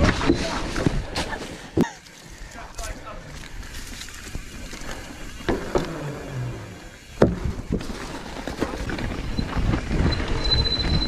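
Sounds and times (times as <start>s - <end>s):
bike rattling over rough trail: 0.0s - 11.0s.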